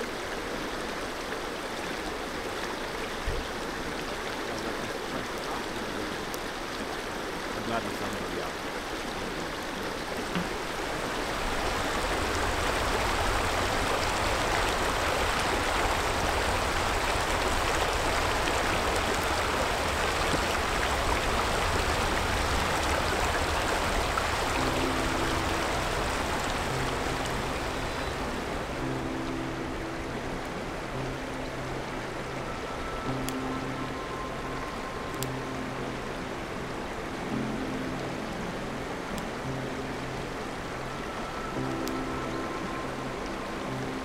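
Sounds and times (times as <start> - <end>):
river rushing over stones: 0.0 - 44.0.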